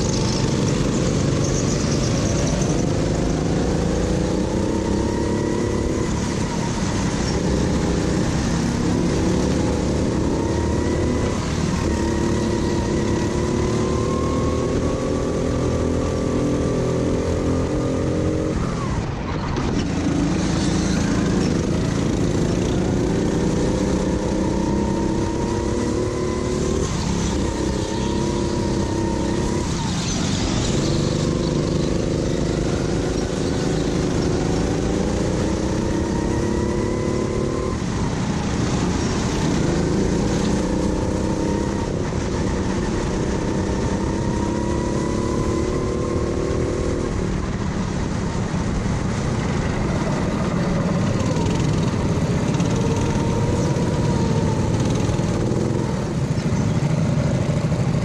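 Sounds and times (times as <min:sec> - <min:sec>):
go-kart engine accelerating: 0:00.0 - 0:58.0.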